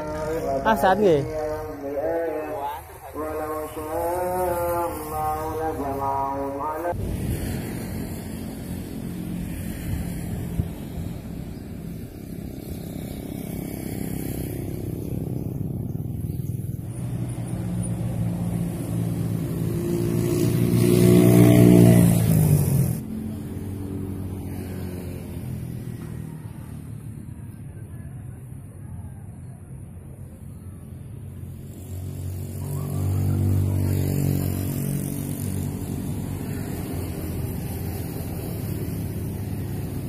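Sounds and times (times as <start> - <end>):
passing vehicle engine: 0.0 - 40.0.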